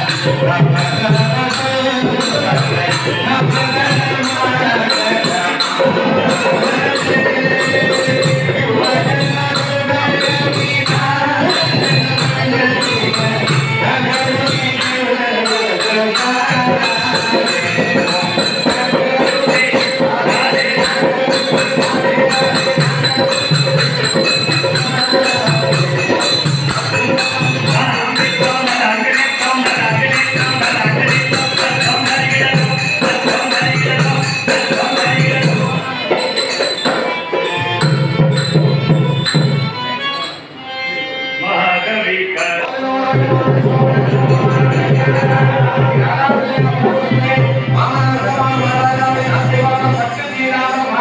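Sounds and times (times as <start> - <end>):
jingling percussion: 0.0 - 41.0, 42.4 - 51.0
wavering melody: 0.9 - 41.8.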